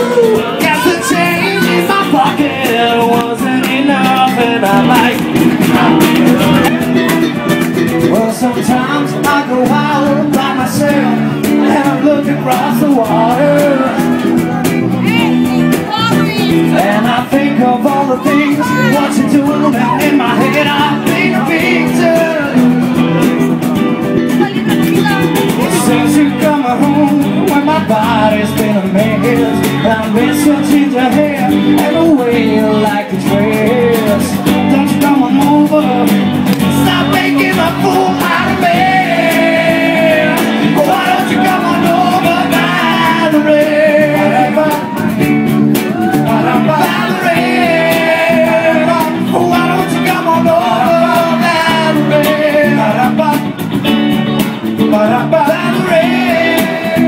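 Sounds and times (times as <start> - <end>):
person singing: 0.0 - 53.6, 54.8 - 57.0
live pop-rock band playing: 0.0 - 57.0.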